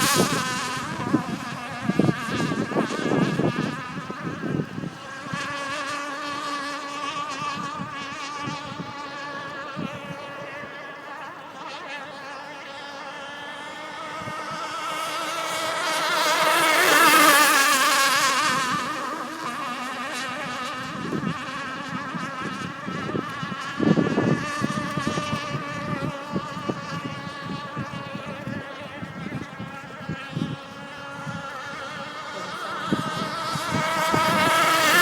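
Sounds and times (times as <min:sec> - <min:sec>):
model boat engine buzzing: 0:00.0 - 0:35.0.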